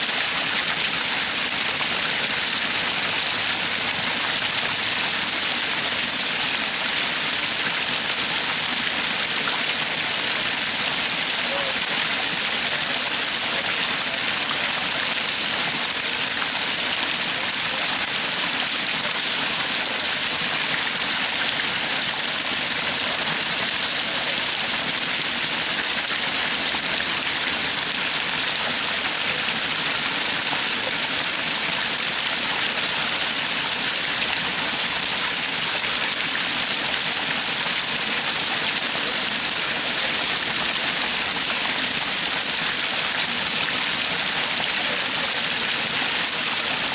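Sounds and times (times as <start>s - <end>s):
waterfall splashing over rocks: 0.0s - 46.9s.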